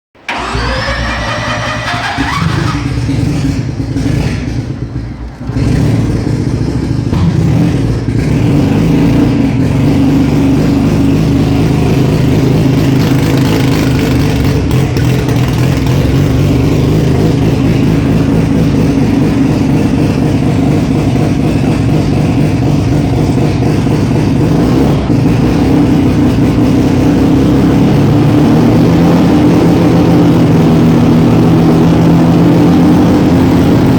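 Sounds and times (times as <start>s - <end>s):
race car engine revving: 0.3s - 33.9s.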